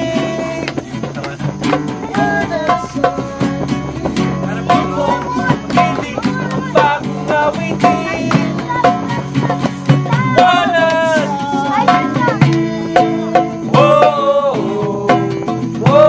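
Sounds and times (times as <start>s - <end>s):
acoustic guitar strumming: 0.0s - 16.0s
man singing: 0.0s - 16.0s.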